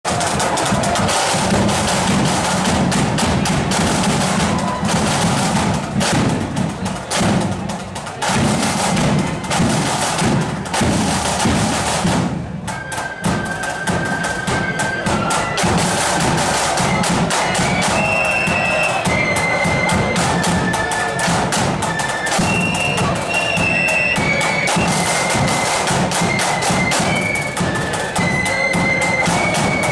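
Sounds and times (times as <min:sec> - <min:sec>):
snare and bass drums: 0:00.0 - 0:29.9
flute band playing march: 0:00.1 - 0:29.9.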